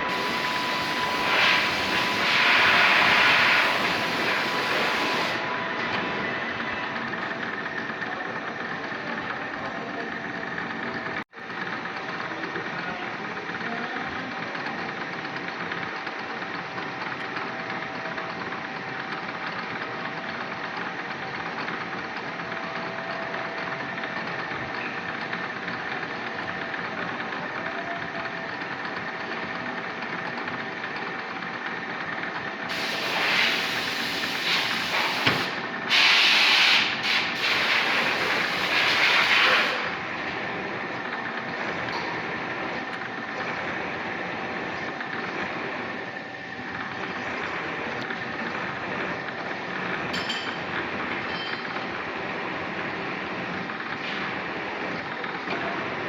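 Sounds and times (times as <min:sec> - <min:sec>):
milling machine running: 0:00.0 - 0:56.0.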